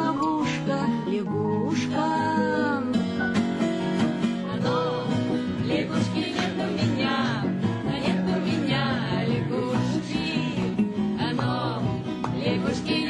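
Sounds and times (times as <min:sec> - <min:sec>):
song with acoustic guitar: 0:00.0 - 0:13.0.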